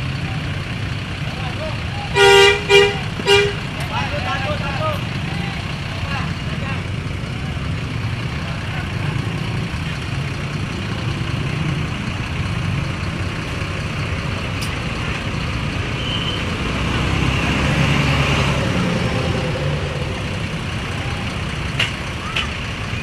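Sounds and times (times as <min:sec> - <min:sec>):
road traffic engine rumble: 0:00.0 - 0:23.0
large vehicle passing close: 0:03.0 - 0:23.0.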